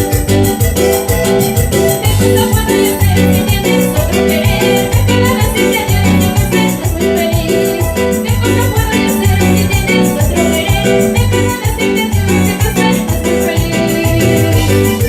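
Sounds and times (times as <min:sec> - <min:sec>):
electronic keyboard dance music: 0:00.0 - 0:15.0.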